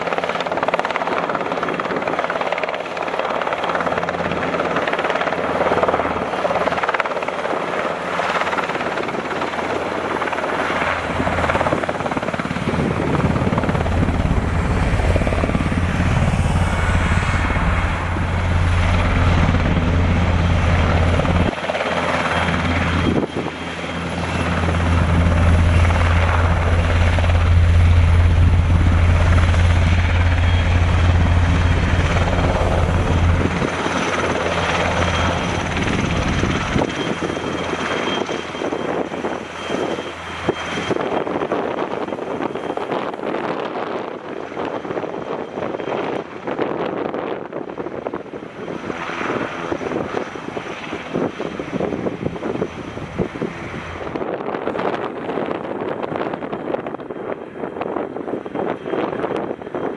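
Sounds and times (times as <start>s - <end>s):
helicopter rotor and engines: 0.0s - 59.9s.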